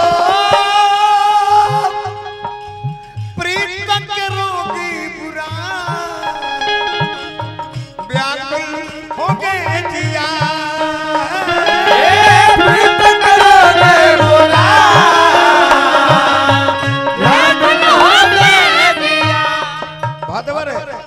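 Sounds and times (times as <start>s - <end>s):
wavering folk melody: 0.0s - 21.0s.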